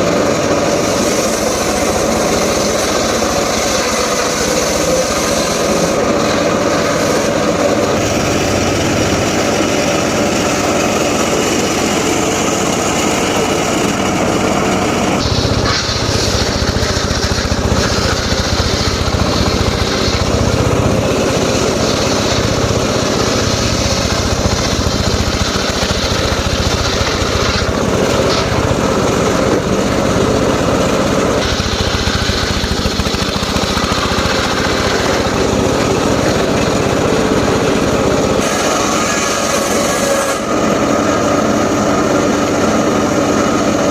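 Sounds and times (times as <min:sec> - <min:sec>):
petrol engine saw cutting wood: 0:00.0 - 0:43.9.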